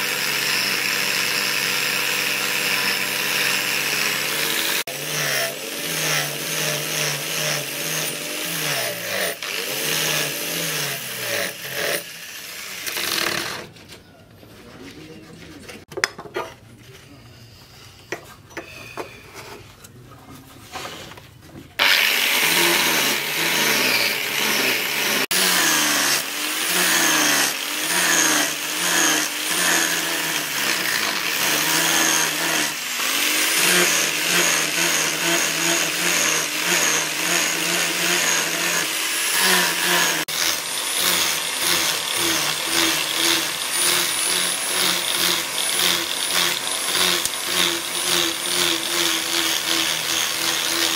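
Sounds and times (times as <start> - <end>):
angle grinder grinding steel: 0.0 - 13.8, 21.8 - 50.9.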